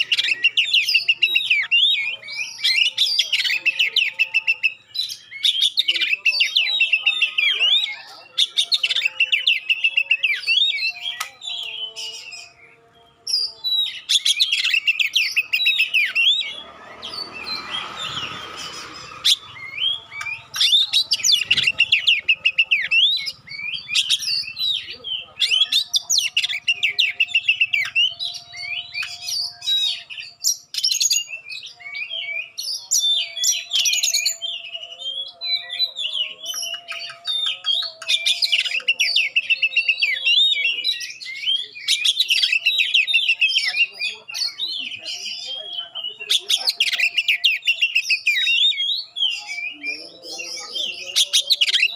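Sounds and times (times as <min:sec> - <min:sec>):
bird singing varied song: 0:00.0 - 0:51.9.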